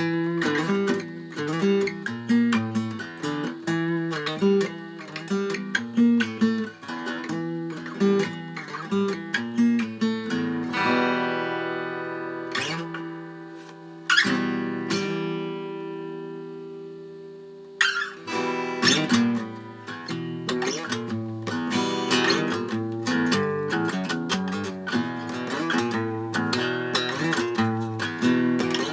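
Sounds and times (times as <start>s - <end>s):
acoustic guitar strumming: 0.0s - 28.9s.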